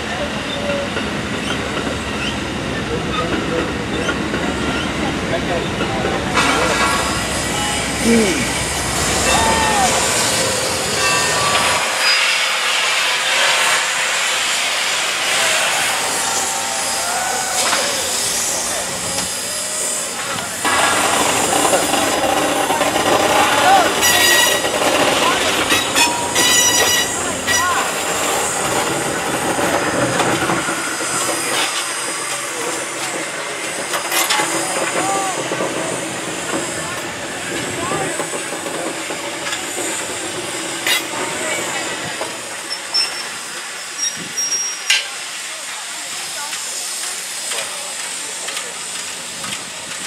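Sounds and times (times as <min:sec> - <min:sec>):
steam locomotive venting steam: 0:00.0 - 0:50.0.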